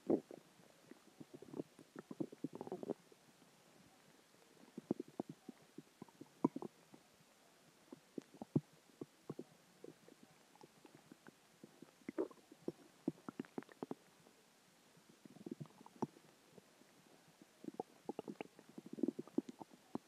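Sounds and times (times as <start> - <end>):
stomach growling: 0.0 - 7.1, 7.8 - 14.4, 15.0 - 20.0.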